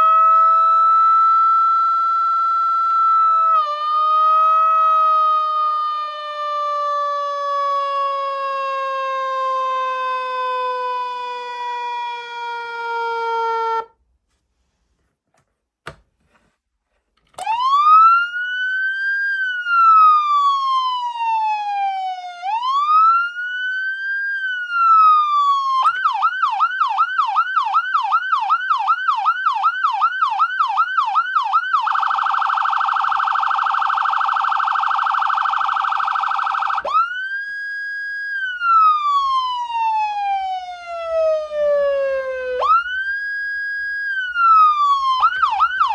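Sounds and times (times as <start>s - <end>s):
electronic siren: 0.0s - 13.9s, 17.4s - 45.9s.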